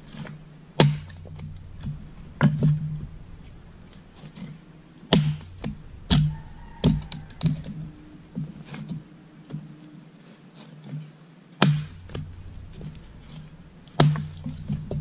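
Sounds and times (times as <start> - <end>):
axe splitting firewood: 0.0 - 9.0, 11.6 - 15.0.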